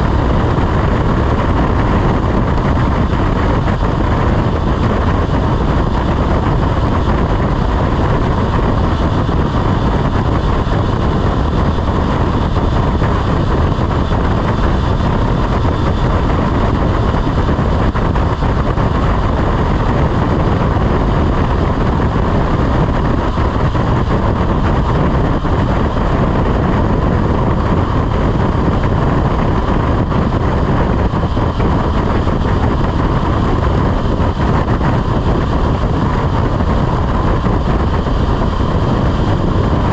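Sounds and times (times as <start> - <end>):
constant rushing noise: 0.0 - 39.9
motorcycle engine running: 0.0 - 39.9.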